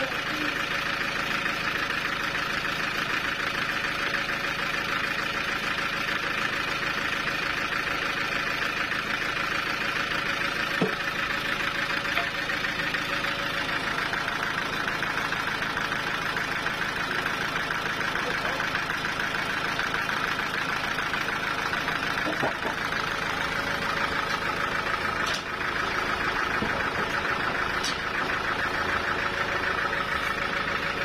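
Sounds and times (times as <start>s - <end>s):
sawmill machinery humming: 0.0s - 31.0s.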